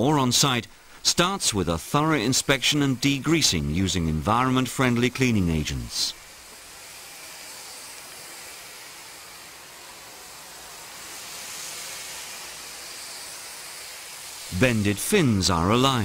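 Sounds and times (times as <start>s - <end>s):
cleaning spray hissing: 0.0s - 16.0s.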